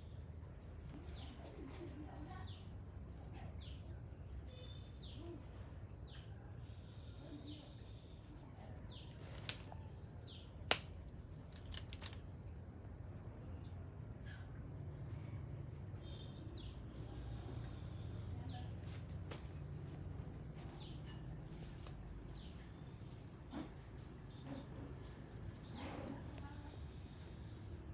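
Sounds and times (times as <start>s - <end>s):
insect drone: 0.0s - 27.9s.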